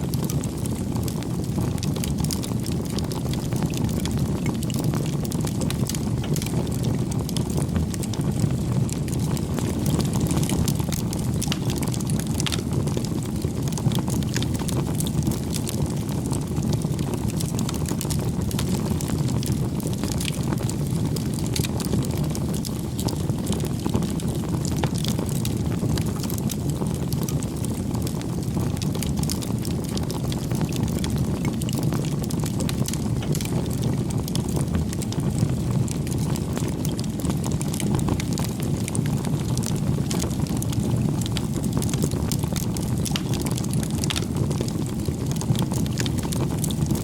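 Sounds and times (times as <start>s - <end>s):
campfire flames rushing: 0.0s - 47.0s
fire crackling and popping: 0.0s - 47.0s.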